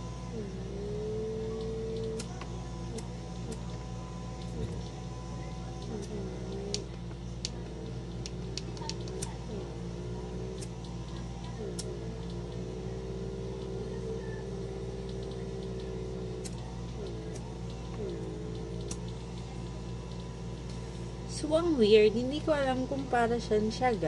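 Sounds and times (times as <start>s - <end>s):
small motor whining: 0.0s - 20.2s.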